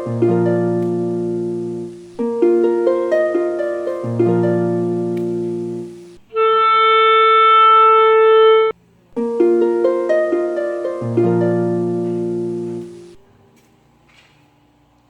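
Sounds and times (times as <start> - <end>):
instrumental music with plucked notes: 0.0 - 13.2.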